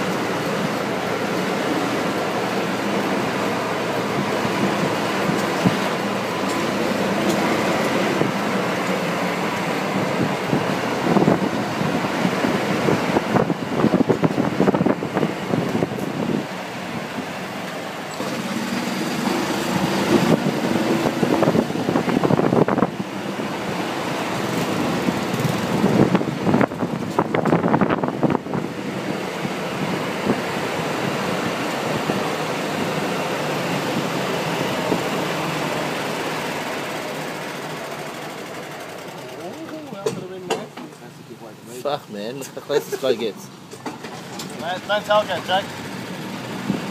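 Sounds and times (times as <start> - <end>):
golf cart motor hum: 0.0 - 41.7, 42.4 - 46.9.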